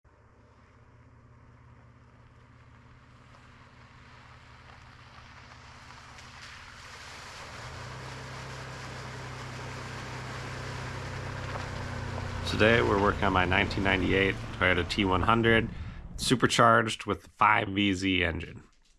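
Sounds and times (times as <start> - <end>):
vehicle engine running: 0.1 - 16.6.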